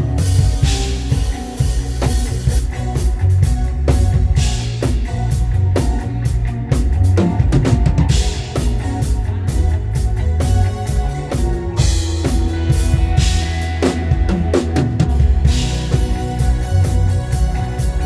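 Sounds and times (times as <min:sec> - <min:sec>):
drum kit groove: 0:00.0 - 0:18.0
live band playing praise music: 0:00.0 - 0:18.0.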